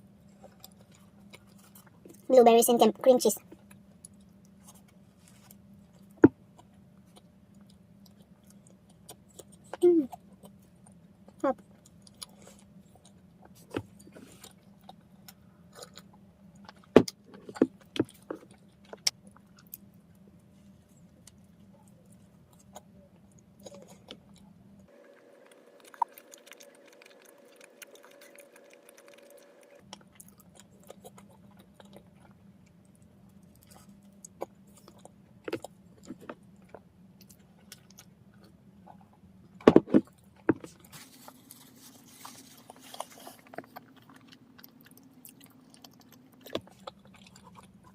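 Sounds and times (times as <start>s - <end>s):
bread being bitten and chewed: 0.0s - 2.3s, 3.6s - 47.9s
clicks and crackles handling food: 3.4s - 47.9s.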